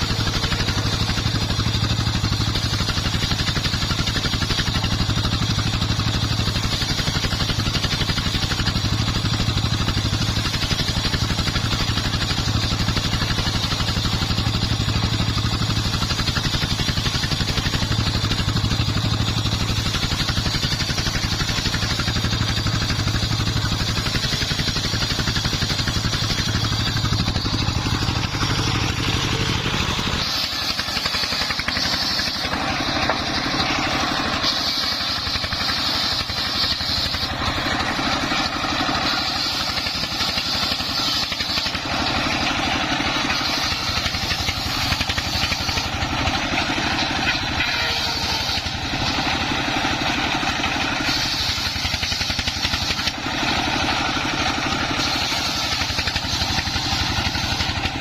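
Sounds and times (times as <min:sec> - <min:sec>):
circular saw cutting timber: 0:00.0 - 0:58.0
diesel engine running: 0:00.0 - 0:58.0.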